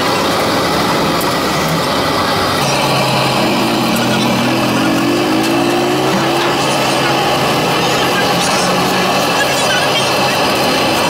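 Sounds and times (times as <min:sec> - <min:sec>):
engine pitch rising: 0:00.0 - 0:11.0
low engine hum: 0:00.0 - 0:11.0
traffic noise: 0:00.0 - 0:11.0.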